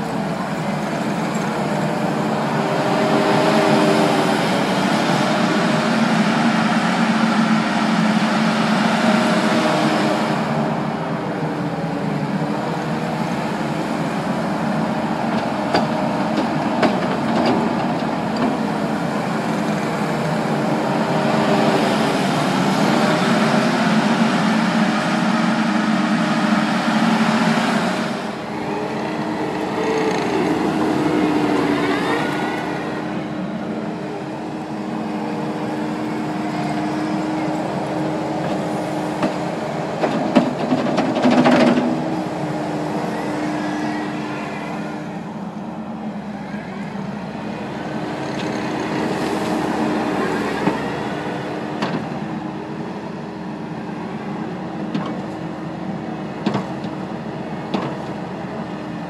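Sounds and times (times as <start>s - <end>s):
loader diesel engine working: 0.0s - 59.0s.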